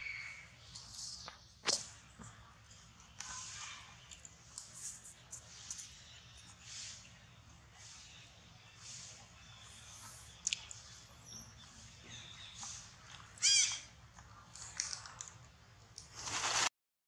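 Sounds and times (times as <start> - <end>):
faint outdoor background: 0.0 - 16.7.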